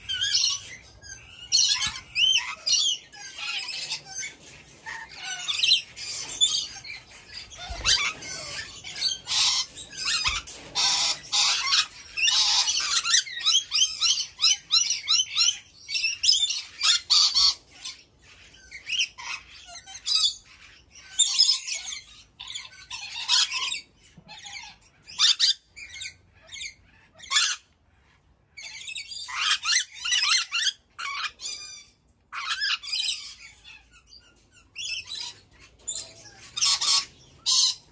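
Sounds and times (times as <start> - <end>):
parrots screeching squawks: 0.0 - 37.9.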